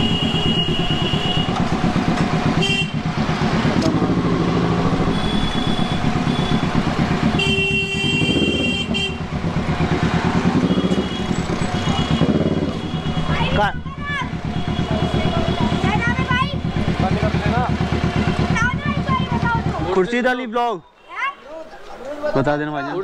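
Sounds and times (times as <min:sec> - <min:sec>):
car horns honking: 0:00.0 - 0:19.8
motorcycle engine at low revs: 0:00.0 - 0:19.9.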